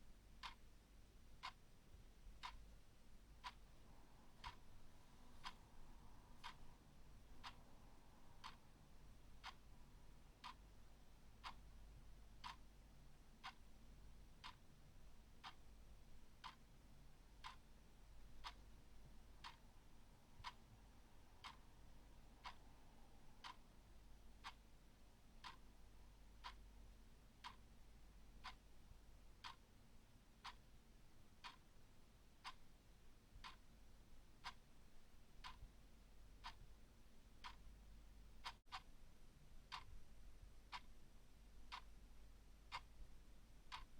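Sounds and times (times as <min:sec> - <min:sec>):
clock ticking: 0:00.4 - 0:00.6, 0:01.4 - 0:01.7, 0:02.3 - 0:02.7, 0:03.3 - 0:20.8, 0:21.4 - 0:29.8, 0:30.4 - 0:38.9, 0:39.7 - 0:40.0, 0:41.7 - 0:42.0, 0:42.7 - 0:43.0.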